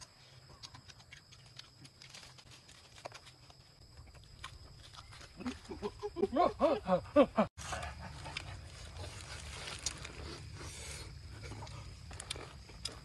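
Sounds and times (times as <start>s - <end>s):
chewing and mouth clicks: 0.0s - 5.7s, 7.8s - 13.0s.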